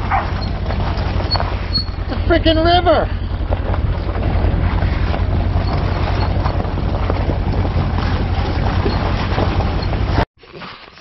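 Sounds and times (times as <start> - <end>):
tyres on gravel: 0.0 - 10.3
utility vehicle engine droning: 0.0 - 10.3.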